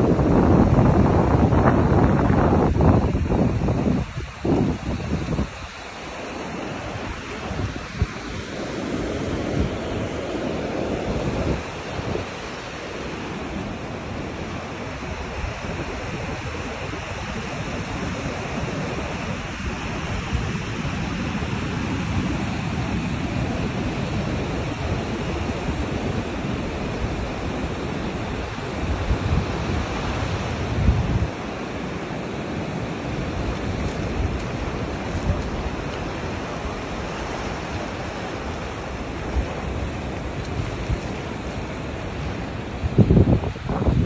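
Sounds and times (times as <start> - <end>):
surf washing up sand: 0.0 - 44.0
wind buffeting microphone: 0.0 - 44.0.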